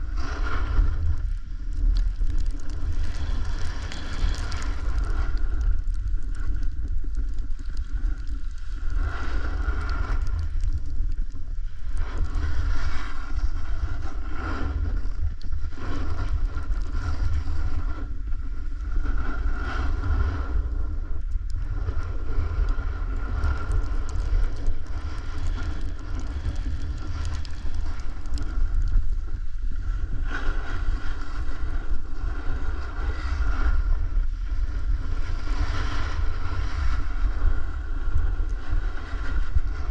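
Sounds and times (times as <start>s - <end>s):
snowboard sliding over snow: 0.0s - 39.9s
wind buffeting microphone: 0.0s - 39.9s.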